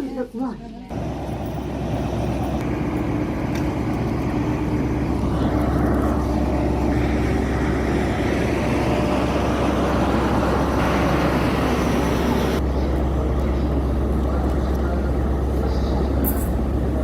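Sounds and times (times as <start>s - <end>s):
train engine drone: 0.9s - 17.0s.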